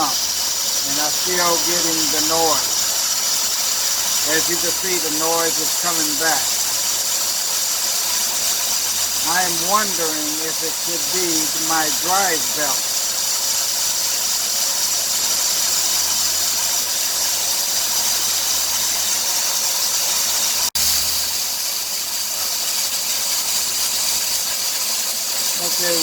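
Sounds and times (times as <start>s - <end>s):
drive belt hissing: 0.0s - 26.0s.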